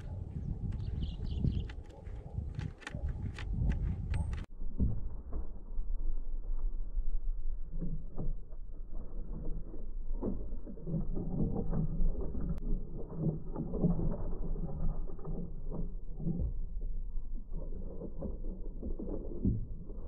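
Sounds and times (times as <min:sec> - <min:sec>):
birds pecking seeds on wooden tray: 0:00.0 - 0:04.5, 0:07.9 - 0:20.0
low rumble: 0:00.0 - 0:20.0.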